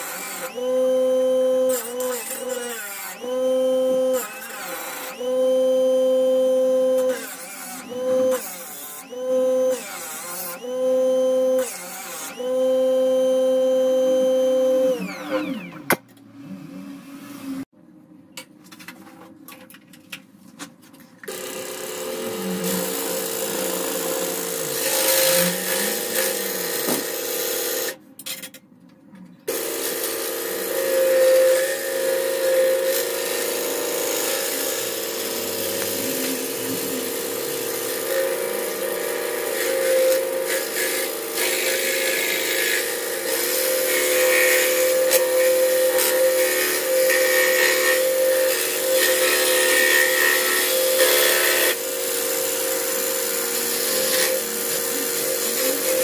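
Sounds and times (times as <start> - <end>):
scroll saw cutting wood: 0.0 - 17.7, 21.3 - 28.0, 29.5 - 56.0.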